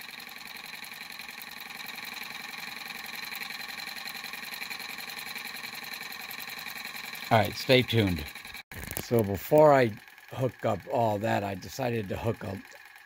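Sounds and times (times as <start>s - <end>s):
small motor buzzing: 0.0s - 13.0s.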